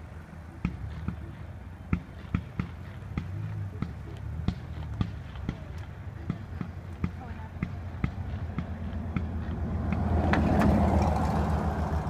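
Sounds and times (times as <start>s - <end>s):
steady low rumble: 0.0s - 12.0s
fireworks popping and thudding: 0.6s - 11.1s.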